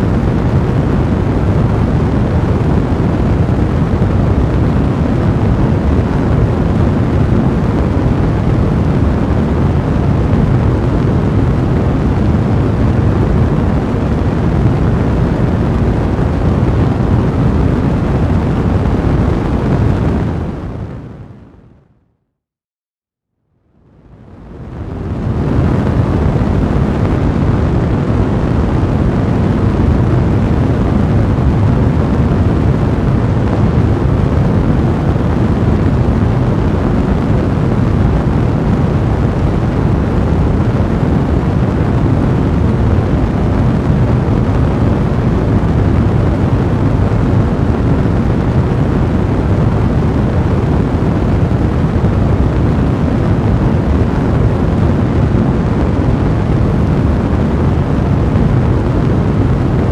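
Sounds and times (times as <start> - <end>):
fire roaring in fireplace: 0.0 - 21.5, 23.9 - 59.9.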